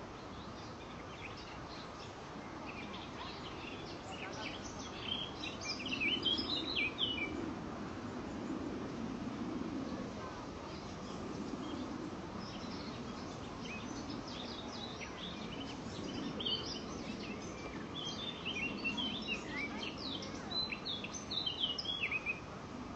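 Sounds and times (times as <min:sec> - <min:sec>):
low outdoor background noise: 0:00.0 - 0:22.9
birds chirping: 0:00.1 - 0:07.4, 0:10.2 - 0:22.4.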